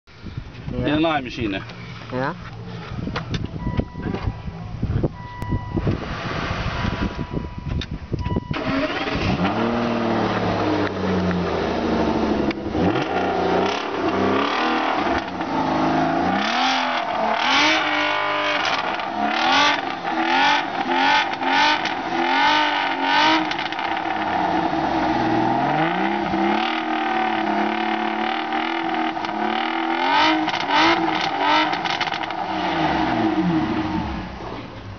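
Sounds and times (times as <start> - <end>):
car engine idling and revving: 0.4 - 34.9
car engine starting: 0.4 - 34.9.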